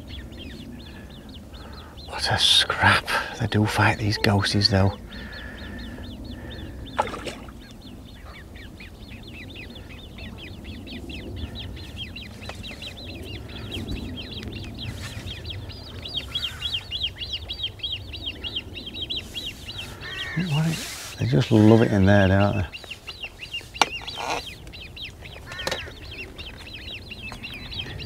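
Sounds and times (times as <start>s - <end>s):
bird chirping rapidly: 0.0s - 28.0s.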